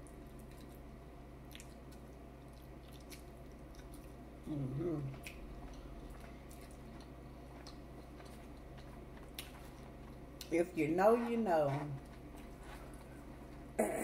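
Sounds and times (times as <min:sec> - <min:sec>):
person chewing food: 0:00.0 - 0:10.5, 0:11.1 - 0:13.8.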